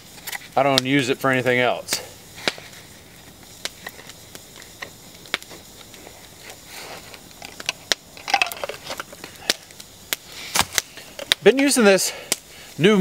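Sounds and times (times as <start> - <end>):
campfire pops and cracks: 0.0 - 13.0.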